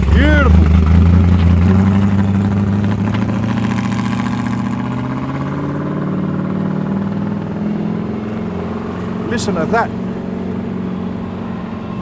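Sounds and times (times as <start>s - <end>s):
car engine pulling away: 0.0s - 12.0s.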